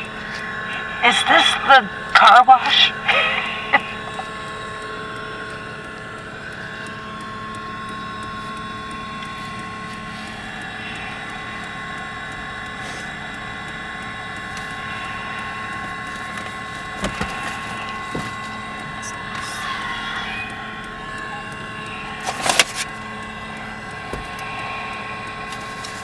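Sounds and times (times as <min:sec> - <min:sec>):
droning hum with held tones: 0:00.0 - 0:26.0.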